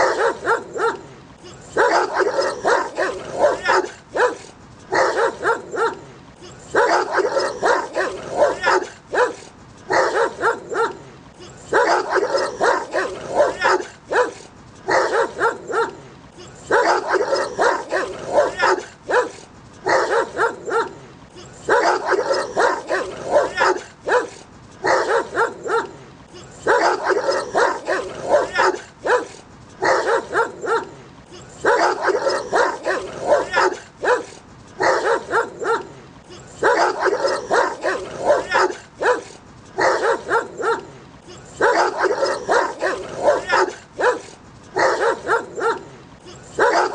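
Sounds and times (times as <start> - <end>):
dogs barking aggressively: 0.0 - 16.0, 16.6 - 21.0, 21.6 - 46.9.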